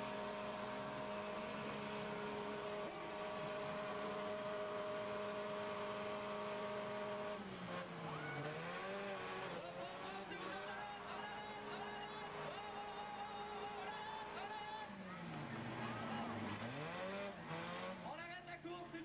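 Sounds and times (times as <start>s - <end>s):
car engine revving high: 0.0s - 18.2s.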